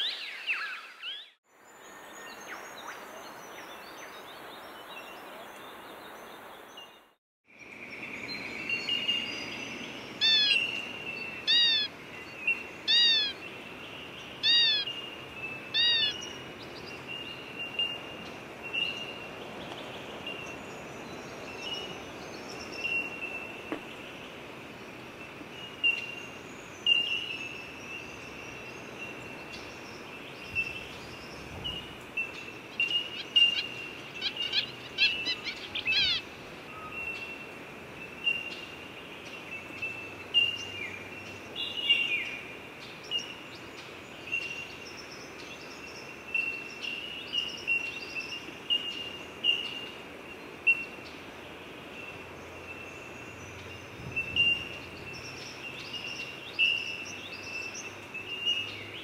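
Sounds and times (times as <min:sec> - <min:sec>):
steady background hiss: 0:07.6 - 0:59.0
small birds chirping: 0:07.8 - 0:59.0.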